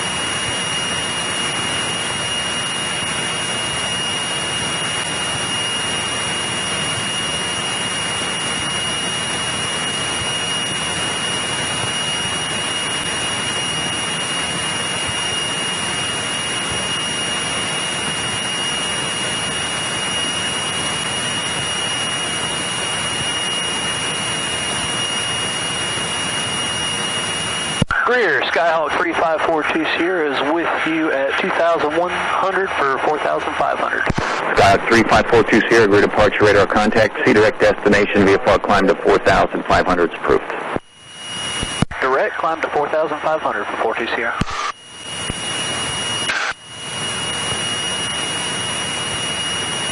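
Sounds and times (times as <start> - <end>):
airplane engine and propeller: 0.0 - 49.9
thin high whine: 0.0 - 49.9.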